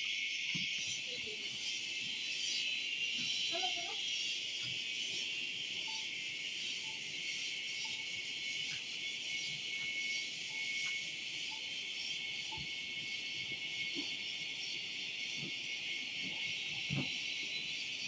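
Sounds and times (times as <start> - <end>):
forest insects shrilling: 0.0 - 18.0.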